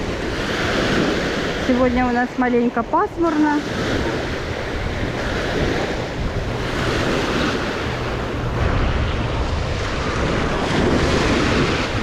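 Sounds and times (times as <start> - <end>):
small waves breaking: 0.0 - 12.0
wind buffeting microphone: 0.0 - 12.0.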